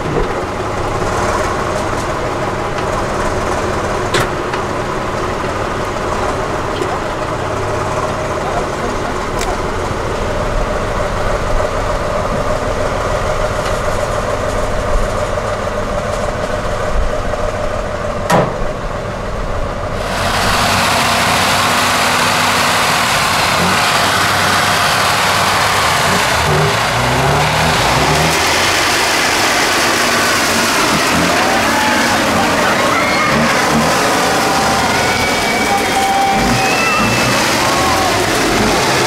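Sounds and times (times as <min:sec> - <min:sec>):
truck diesel engine under load: 0:00.0 - 0:39.0
truck forcing through brush: 0:00.0 - 0:39.0.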